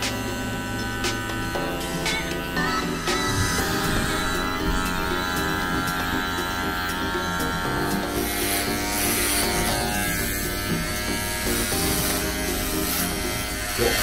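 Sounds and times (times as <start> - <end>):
background music: 0.0 - 14.0
electric hair clippers buzzing: 0.0 - 14.0.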